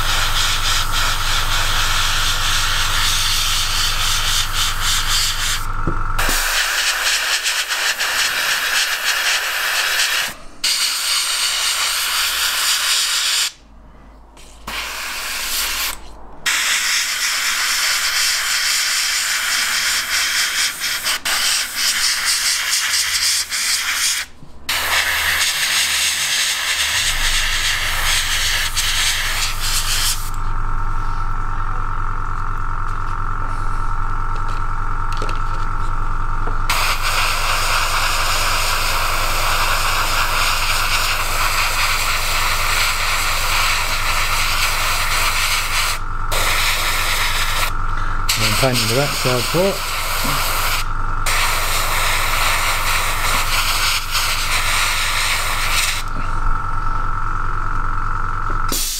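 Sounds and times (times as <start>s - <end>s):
air compressor humming: 0.0s - 13.6s, 14.3s - 58.9s
airbrush spraying hiss: 0.0s - 13.6s, 14.4s - 30.4s, 36.7s - 56.2s.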